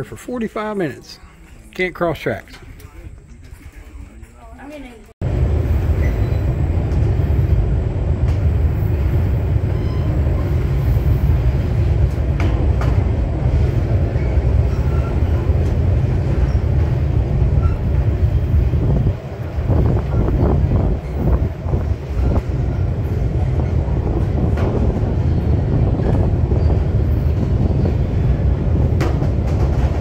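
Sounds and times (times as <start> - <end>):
train rumbling: 2.5 - 30.0.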